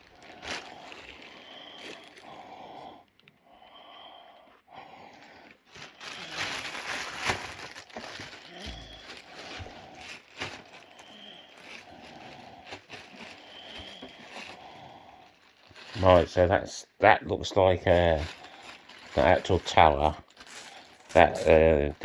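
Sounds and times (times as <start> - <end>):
plastic packaging crinkling: 0.0 - 3.4, 5.2 - 16.7, 17.6 - 22.0.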